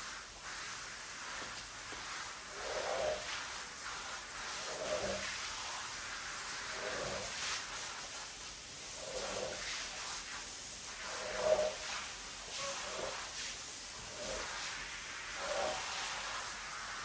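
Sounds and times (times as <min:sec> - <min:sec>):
squeegee swishing water off rug: 0:00.0 - 0:17.0
wet hiss: 0:00.0 - 0:17.0.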